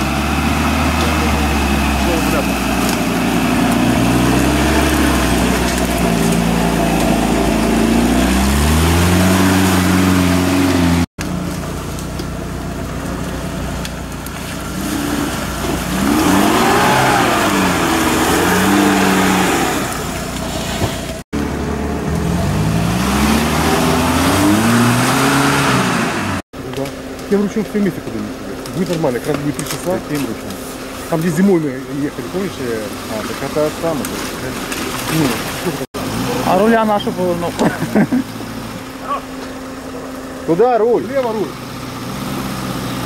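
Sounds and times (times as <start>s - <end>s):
off-road engines revving: 0.0s - 43.0s.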